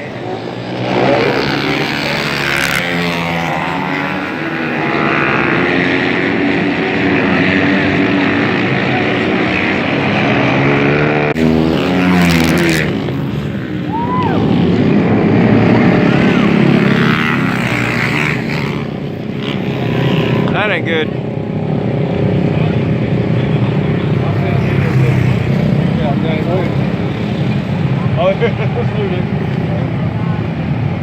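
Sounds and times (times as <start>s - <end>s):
racing motorcycle engines: 0.0s - 31.0s.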